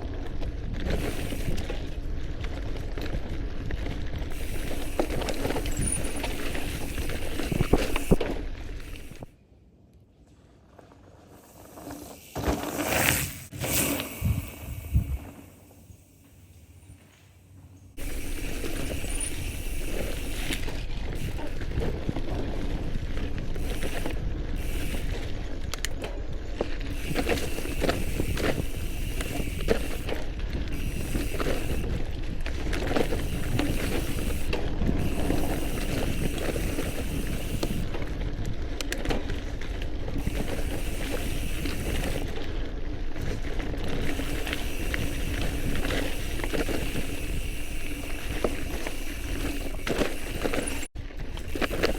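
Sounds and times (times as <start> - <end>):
wind noise on microphone: 0.0 - 9.3, 14.0 - 15.4, 18.0 - 51.9
bike rattling over rough ground: 0.0 - 9.4, 10.3 - 51.9
bike tyres rolling on dirt: 0.0 - 9.5, 10.1 - 51.9.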